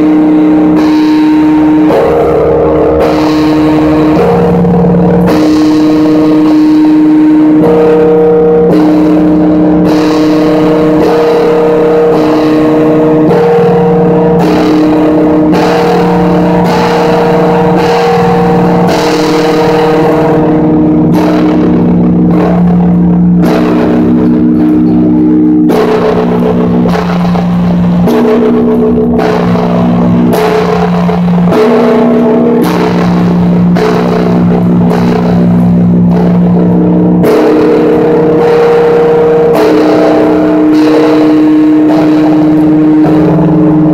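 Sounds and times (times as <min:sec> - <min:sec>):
large church bell ringing: 0:00.0 - 0:43.9.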